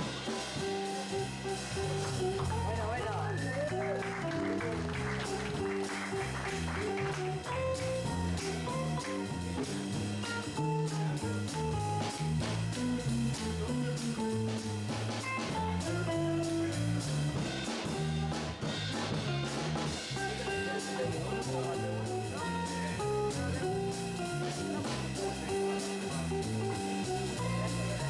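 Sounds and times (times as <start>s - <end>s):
drums on cymbals: 0.0s - 28.0s
guitar melody: 0.0s - 28.0s
walking bass line: 0.0s - 28.0s.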